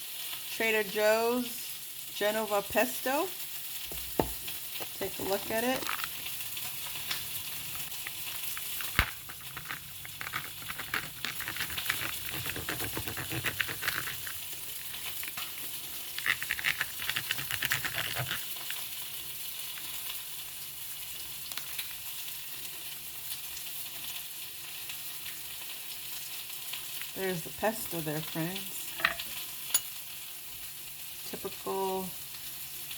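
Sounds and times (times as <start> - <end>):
chicken frying in a pan: 0.0 - 32.9.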